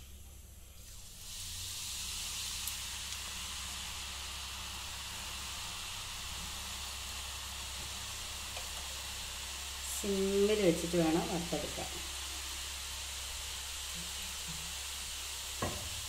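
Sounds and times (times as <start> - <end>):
oil sizzling: 0.0 - 16.0.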